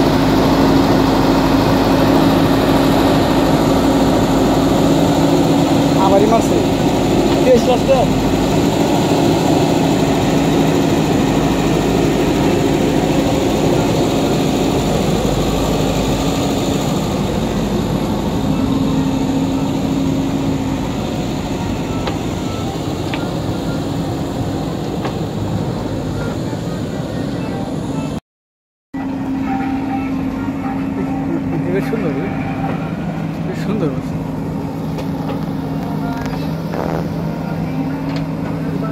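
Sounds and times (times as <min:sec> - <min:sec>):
diesel engines droning: 0:00.0 - 0:28.2, 0:29.0 - 0:38.9.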